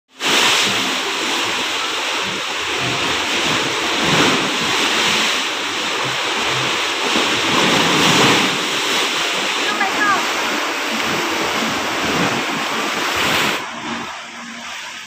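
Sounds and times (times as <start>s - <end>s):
sea waves surging around piles: 0.1s - 15.0s.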